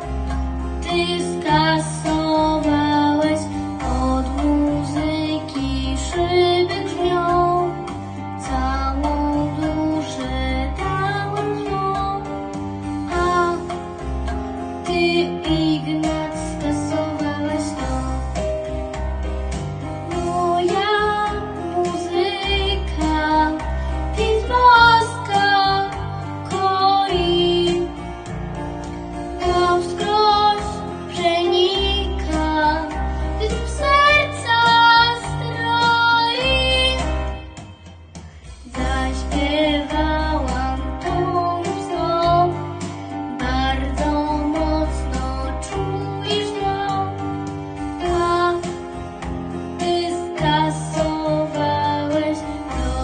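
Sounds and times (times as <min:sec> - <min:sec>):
music with pulsing bass line: 0:00.0 - 0:53.0
girl singing: 0:00.8 - 0:12.3, 0:13.0 - 0:13.8, 0:14.8 - 0:18.5, 0:20.0 - 0:28.0, 0:29.4 - 0:37.7, 0:38.6 - 0:47.2, 0:47.8 - 0:48.9, 0:49.8 - 0:53.0.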